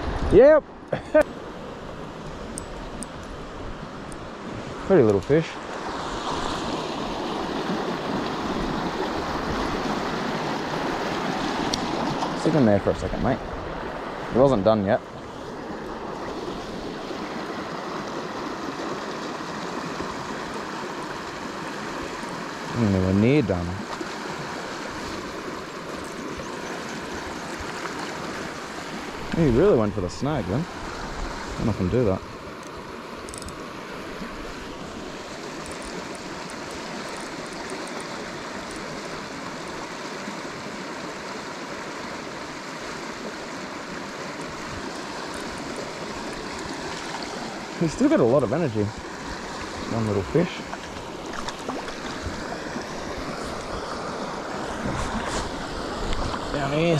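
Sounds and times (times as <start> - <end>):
creek water rushing over rocks: 0.0 - 56.9.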